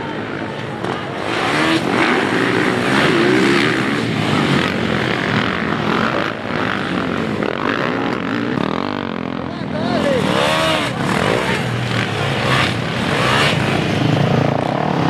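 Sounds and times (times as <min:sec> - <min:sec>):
dirt bikes revving: 0:00.0 - 0:15.0.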